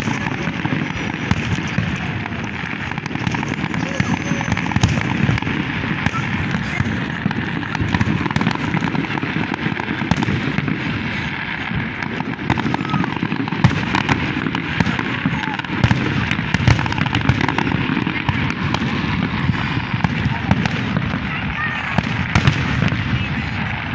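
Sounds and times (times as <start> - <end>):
firework shell bursts and crackling: 0.0 - 23.9
loud firework bangs: 0.0 - 23.9.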